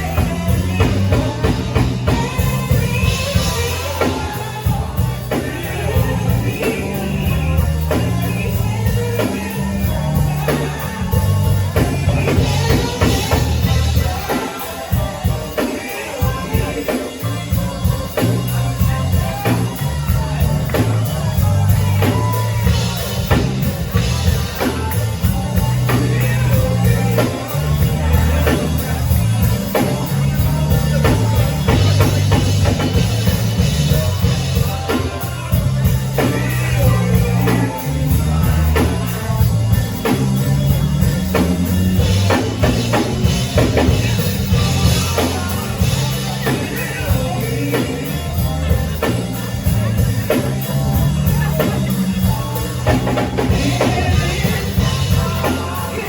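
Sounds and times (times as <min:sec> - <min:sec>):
bass line: 0:00.0 - 0:56.0
drum kit beat: 0:00.0 - 0:56.0
person singing: 0:00.0 - 0:56.0.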